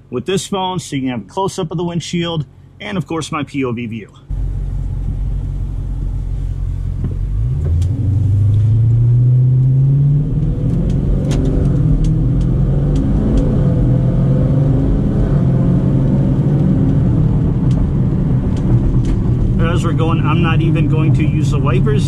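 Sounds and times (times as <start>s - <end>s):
car engine accelerating: 4.3s - 22.0s.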